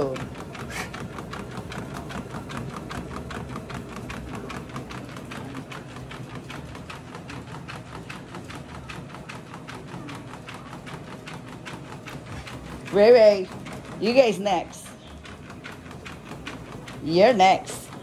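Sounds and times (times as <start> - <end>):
dog paws tapping on belt: 0.0 - 18.0
treadmill humming: 0.0 - 18.0.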